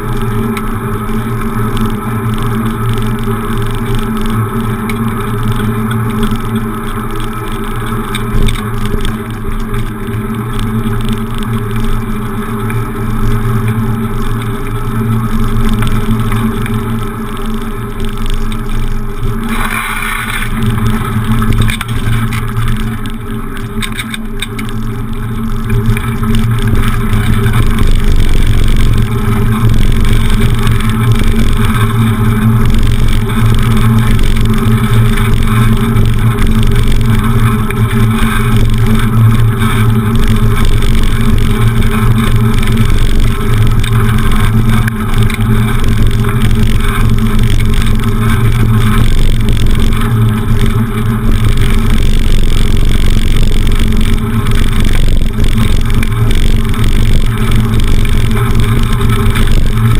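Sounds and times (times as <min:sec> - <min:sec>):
bicycle road noise: 0:00.0 - 0:59.9.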